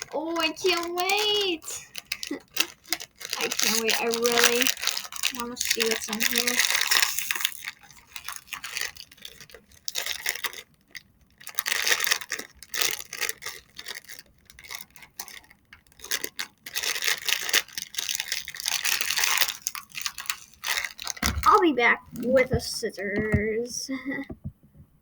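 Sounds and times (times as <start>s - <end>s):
packaging crinkling and rustling: 0.0s - 23.7s.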